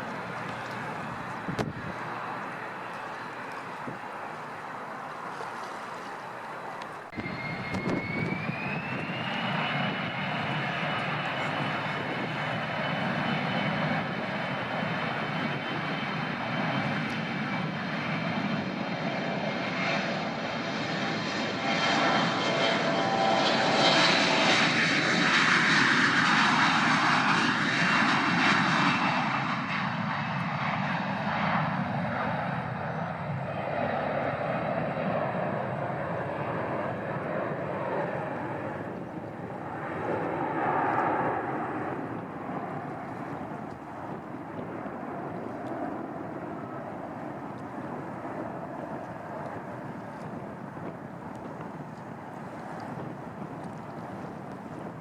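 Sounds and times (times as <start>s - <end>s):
airliner engines passing: 0.0s - 55.0s.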